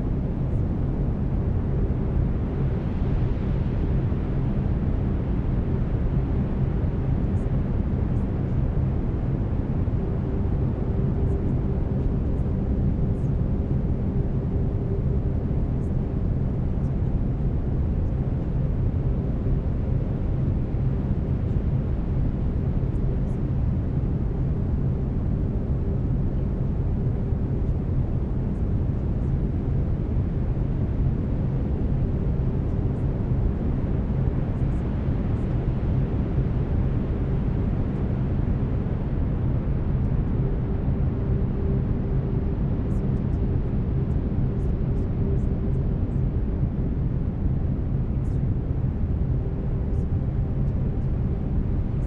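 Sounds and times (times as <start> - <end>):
brown noise rumble: 0.0 - 52.0.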